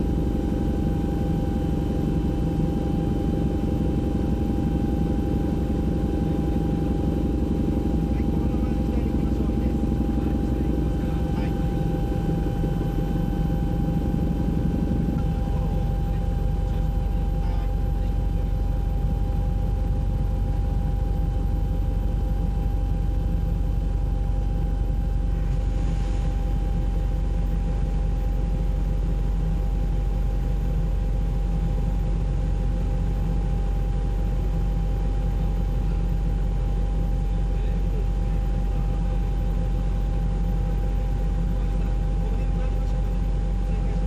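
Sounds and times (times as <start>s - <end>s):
helicopter engine and rotor drone: 0.0s - 44.0s
thin steady whine: 0.0s - 44.0s.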